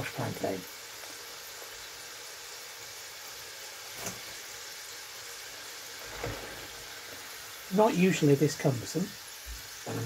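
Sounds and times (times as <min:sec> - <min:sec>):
plantain sizzling in hot oil: 0:00.0 - 0:10.0.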